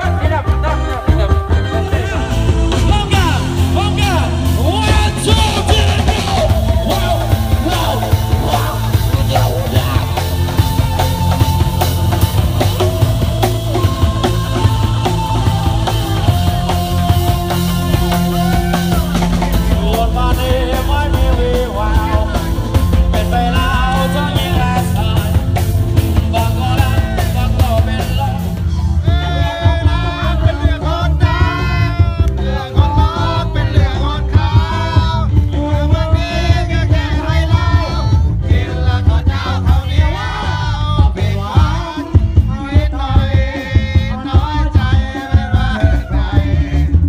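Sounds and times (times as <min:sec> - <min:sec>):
live rock band: 0:00.0 - 0:47.0
person singing: 0:00.0 - 0:47.0.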